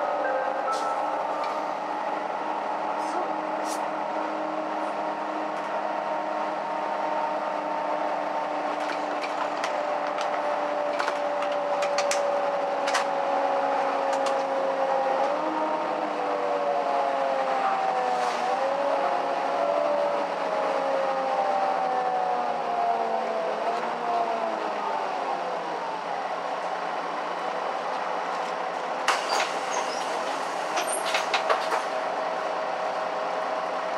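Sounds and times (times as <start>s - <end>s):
bus engine droning: 0.0s - 33.9s.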